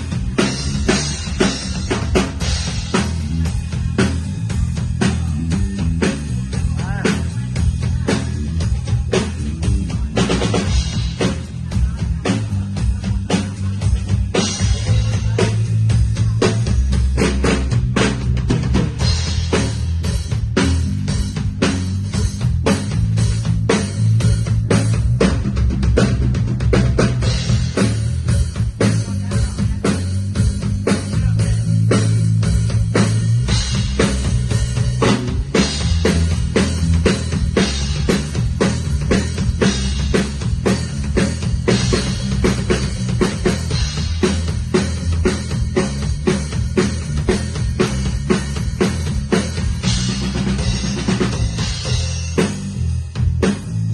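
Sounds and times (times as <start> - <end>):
drum kit groove: 0.0 - 53.9
music with bass and guitar: 0.0 - 53.9.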